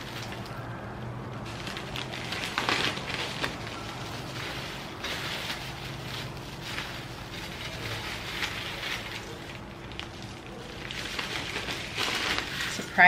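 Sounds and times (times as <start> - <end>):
plastic crinkling: 0.0 - 13.0
snack mix rustling and crunching: 0.0 - 13.0.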